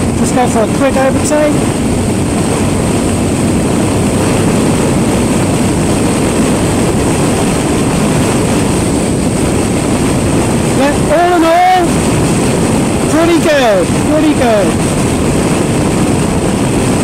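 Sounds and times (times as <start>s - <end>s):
motorcycle engine: 0.0s - 17.0s
wind rushing over microphone: 0.0s - 17.0s.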